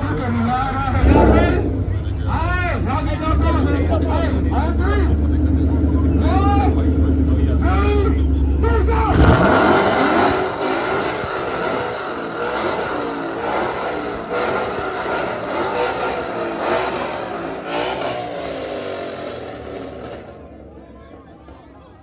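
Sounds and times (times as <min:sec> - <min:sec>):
loud car engine revving: 0:00.0 - 0:20.8.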